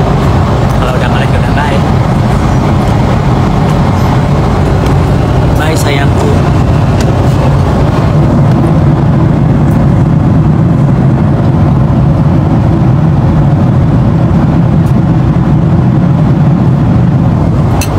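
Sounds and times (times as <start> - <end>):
jet airliner cabin drone: 0.0 - 17.9.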